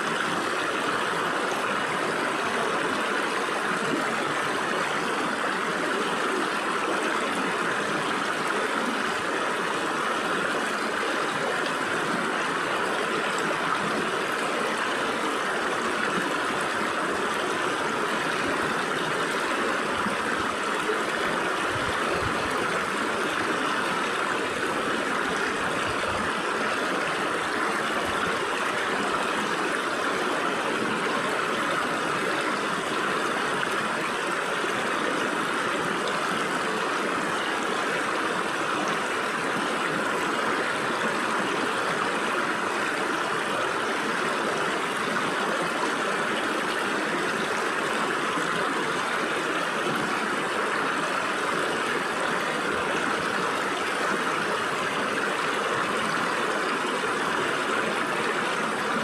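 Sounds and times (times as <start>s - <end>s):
stream gurgling through rocks: 0.0s - 59.0s.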